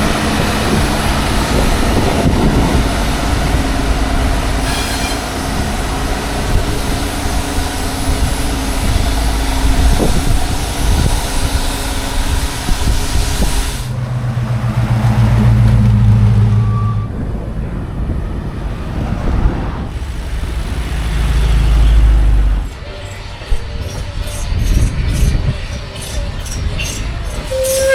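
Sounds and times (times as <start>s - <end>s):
deep engine rumble: 0.0s - 27.6s.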